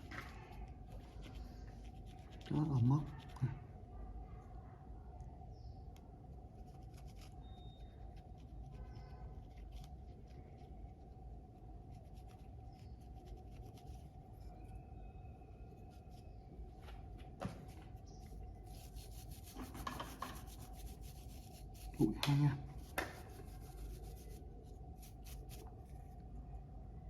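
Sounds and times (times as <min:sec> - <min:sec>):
steady faint hum: 0:00.0 - 0:27.0.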